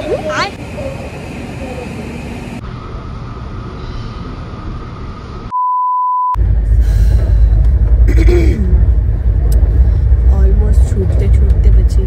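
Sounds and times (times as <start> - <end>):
train carriage rumbling: 0.0 - 5.5, 6.4 - 12.0
platform hum: 0.0 - 12.0.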